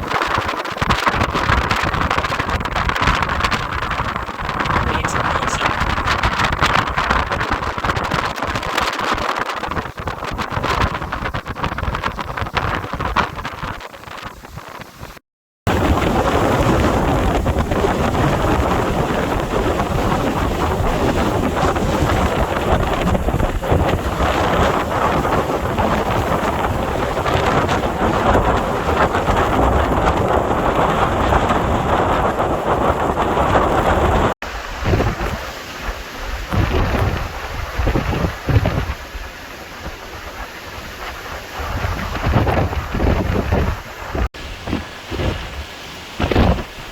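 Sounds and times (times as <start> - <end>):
hurricane wind and heavy rain: 0.0 - 46.9
wind gusts buffeting microphone: 0.0 - 46.9.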